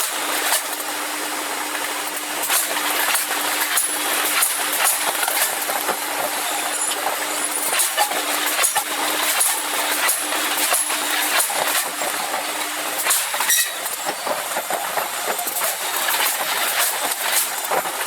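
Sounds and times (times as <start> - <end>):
machinery humming: 0.2 - 18.0.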